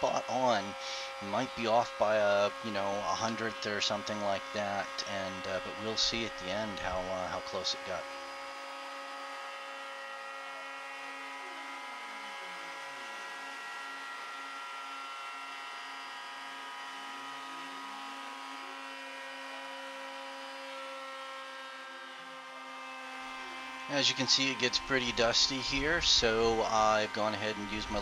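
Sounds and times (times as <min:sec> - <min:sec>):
cnc router whining: 0:00.0 - 0:28.0.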